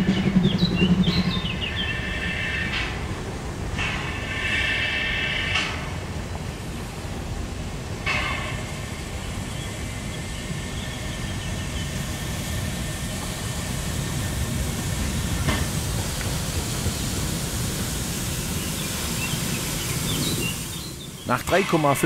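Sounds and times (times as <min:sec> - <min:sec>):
train wheels rumbling on rails: 0:00.0 - 0:22.0
steam hiss: 0:01.7 - 0:22.0.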